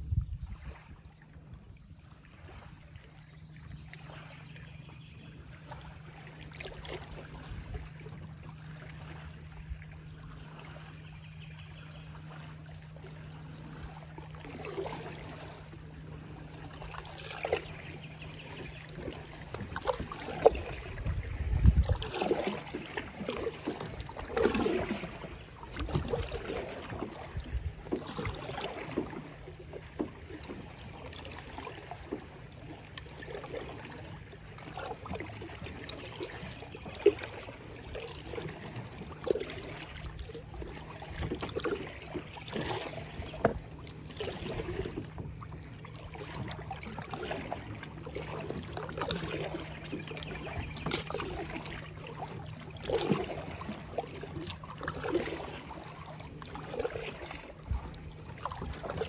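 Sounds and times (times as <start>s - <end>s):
water lapping at hull: 0.0s - 59.0s
paddle strokes splashing: 0.2s - 59.0s.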